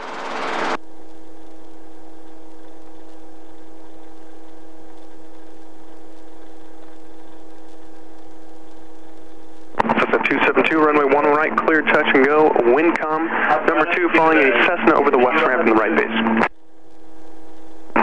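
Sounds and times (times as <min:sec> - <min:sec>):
headset intercom pitched hum: 0:01.5 - 0:18.0.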